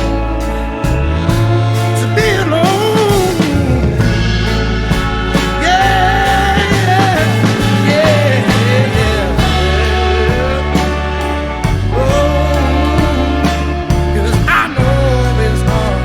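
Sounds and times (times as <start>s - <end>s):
blues band playing: 0.0s - 16.0s
man singing: 0.0s - 16.0s.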